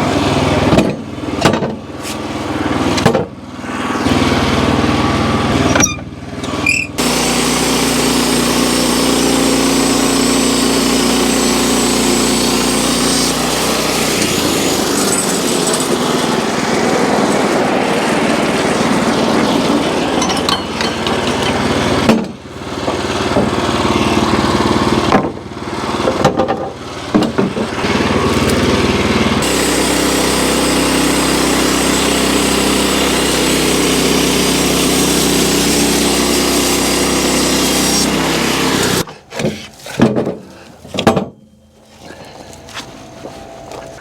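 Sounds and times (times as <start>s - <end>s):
band sawmill cutting log: 0.0s - 39.7s.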